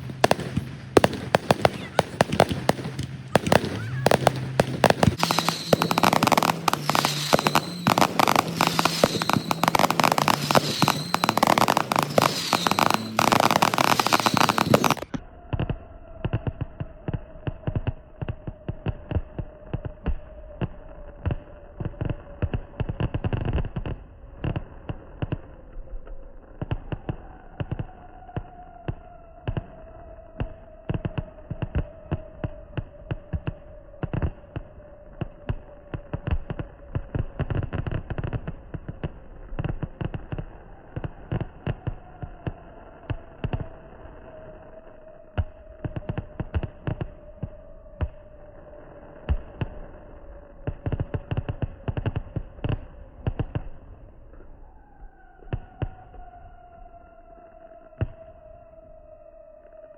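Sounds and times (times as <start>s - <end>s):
fireworks bangs and pops: 0.0s - 29.8s, 30.4s - 44.7s, 45.3s - 48.2s, 49.2s - 54.5s.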